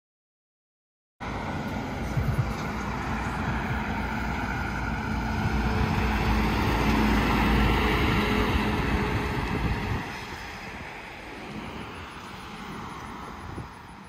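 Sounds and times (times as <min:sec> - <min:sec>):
truck passing by: 0:01.2 - 0:14.0.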